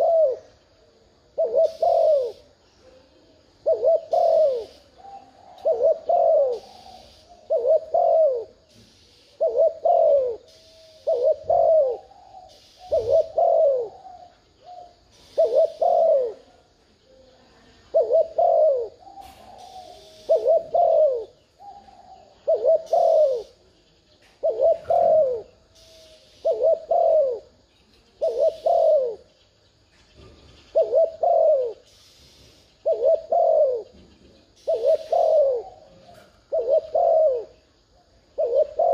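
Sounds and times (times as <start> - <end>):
dove cooing: 0.0 - 29.4, 30.2 - 38.9.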